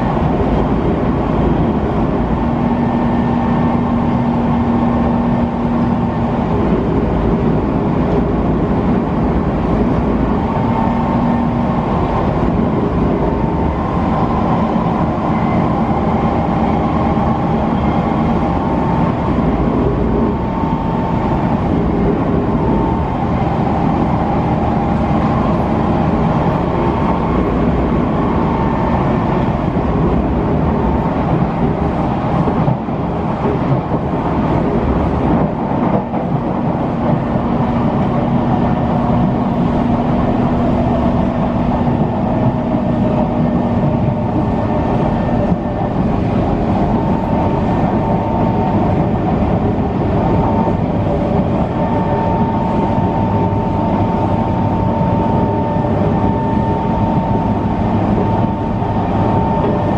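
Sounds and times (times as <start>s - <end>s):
humming drive tones: 0.0s - 59.9s
train wheels rumbling on rail: 0.0s - 59.9s.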